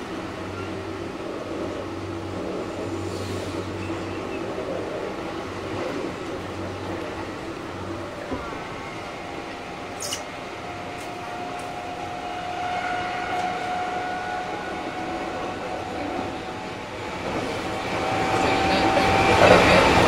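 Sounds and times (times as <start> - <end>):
electric train inverter whine: 0.0 - 20.0
train car running hum: 0.0 - 20.0.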